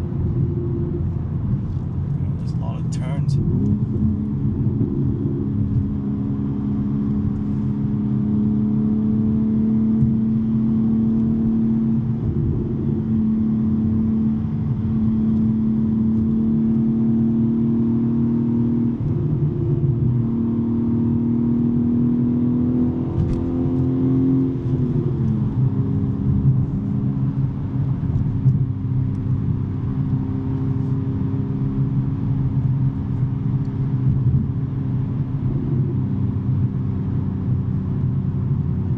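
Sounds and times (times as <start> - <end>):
car exhaust drone: 0.0 - 38.9.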